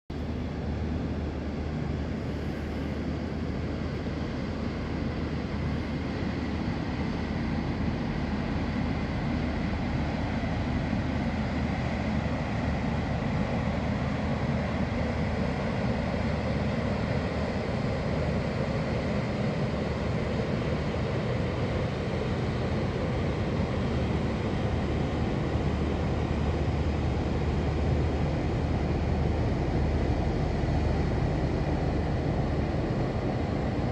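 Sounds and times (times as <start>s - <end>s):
ship engine low drone: 0.1s - 33.9s.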